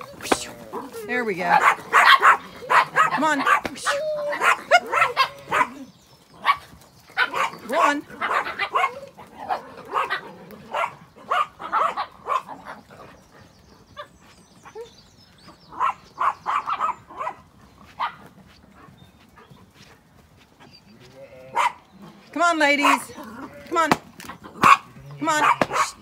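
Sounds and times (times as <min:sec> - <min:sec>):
small dogs yapping: 0:00.0 - 0:19.6, 0:20.6 - 0:26.0.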